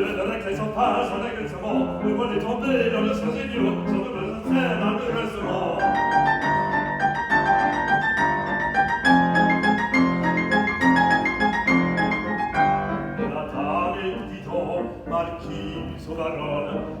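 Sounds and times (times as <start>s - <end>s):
piano playing repeated chords: 0.0s - 17.0s.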